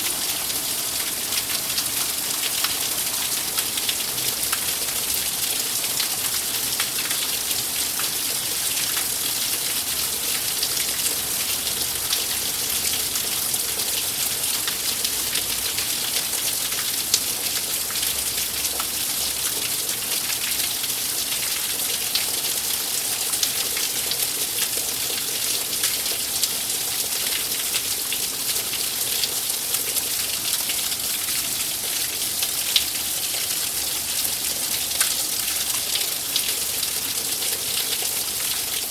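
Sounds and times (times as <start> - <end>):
rain drops ticking: 0.0 - 38.9
steady rain hiss: 0.0 - 38.9.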